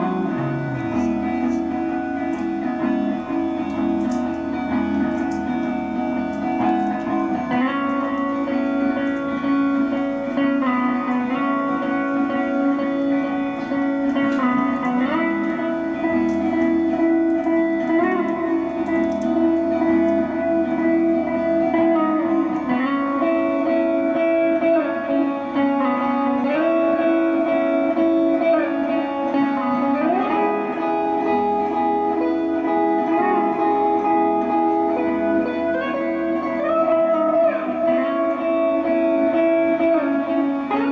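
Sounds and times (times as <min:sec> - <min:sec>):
electric guitar sliding notes: 0:00.0 - 0:40.9
sustained backing music: 0:00.0 - 0:40.9.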